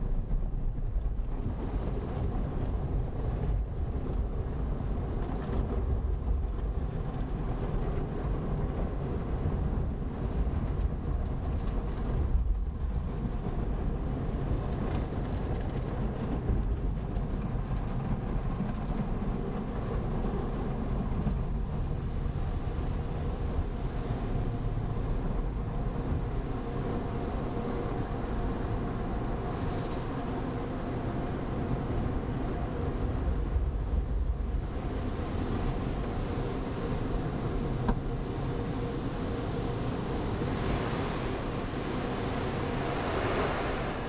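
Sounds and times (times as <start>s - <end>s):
muffled car wash rumble: 0.0s - 44.0s.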